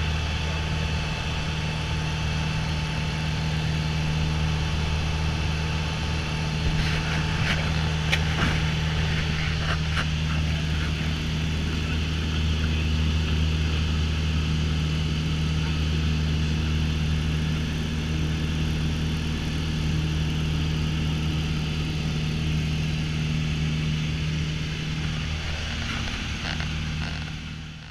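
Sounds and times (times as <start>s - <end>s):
piston engine and propeller droning: 0.0s - 27.9s.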